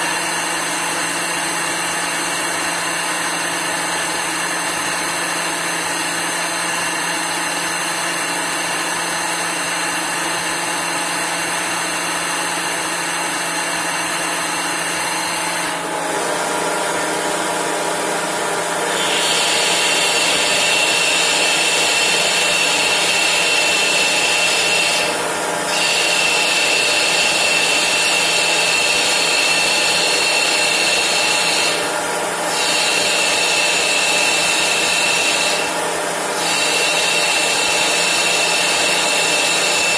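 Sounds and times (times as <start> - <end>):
tool cutting metal: 0.0 - 39.9
lathe spindle whining: 0.1 - 39.9.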